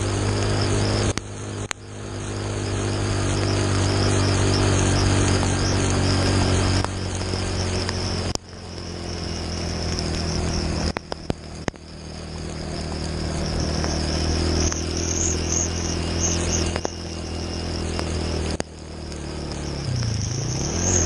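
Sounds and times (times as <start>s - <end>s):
high wavering buzz: 0.0s - 21.0s
motorcycle engine running: 0.0s - 21.0s.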